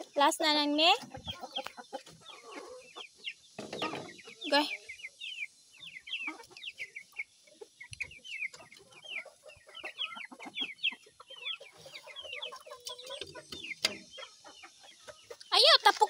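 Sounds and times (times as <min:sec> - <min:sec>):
chickens clucking: 0:00.0 - 0:16.0
chicks peeping: 0:00.0 - 0:16.0.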